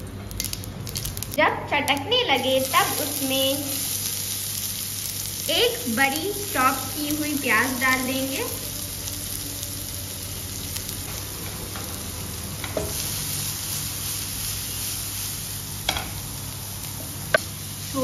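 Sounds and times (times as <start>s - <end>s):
onion sizzling in hot oil: 0.0s - 18.0s.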